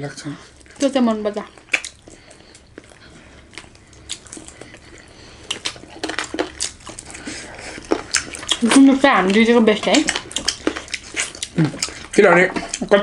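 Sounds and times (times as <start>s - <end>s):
chewing: 0.4s - 13.0s.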